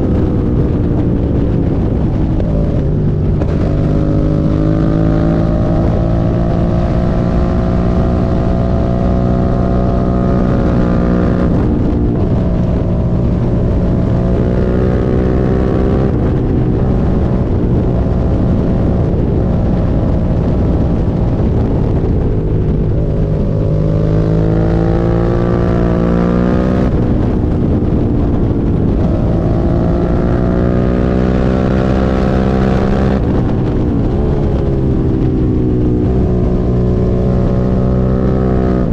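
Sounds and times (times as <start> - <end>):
motorcycle engine changing gears: 0.0 - 38.9
wind noise: 0.0 - 38.9.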